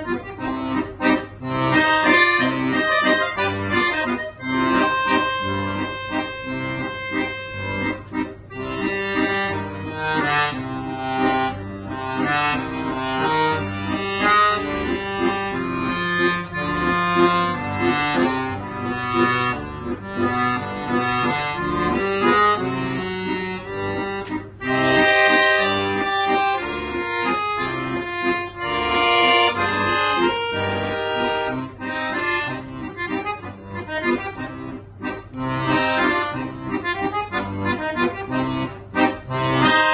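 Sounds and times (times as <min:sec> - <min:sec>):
solo accordion playing: 0:00.0 - 0:39.9.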